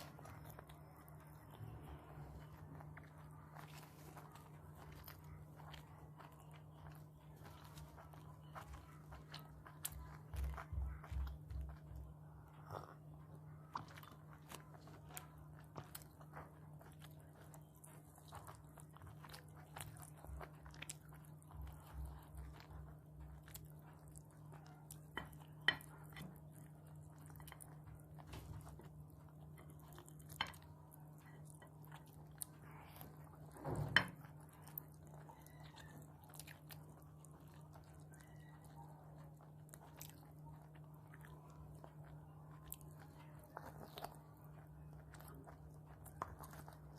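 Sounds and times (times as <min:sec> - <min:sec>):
close chewing and biting: 0:00.0 - 0:46.9.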